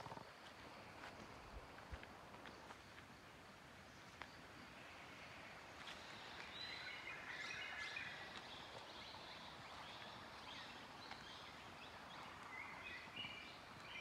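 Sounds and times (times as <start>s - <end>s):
soft forest ambience hiss: 0.0s - 14.0s.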